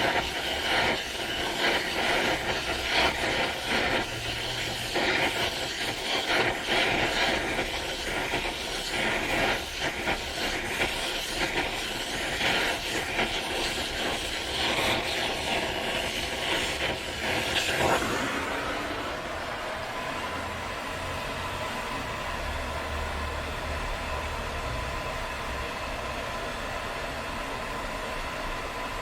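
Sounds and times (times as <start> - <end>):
gas torch flame hissing: 0.0 - 29.0.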